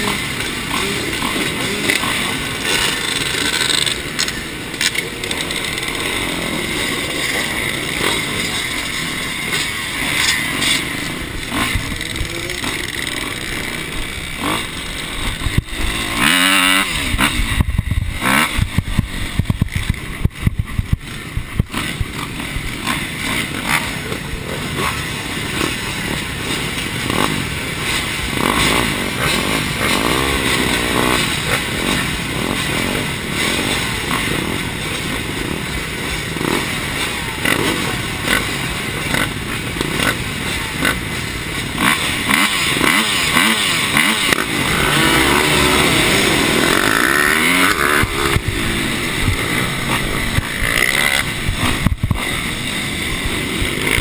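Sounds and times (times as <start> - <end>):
dirt bike engines idling and revving: 0.0 - 54.0.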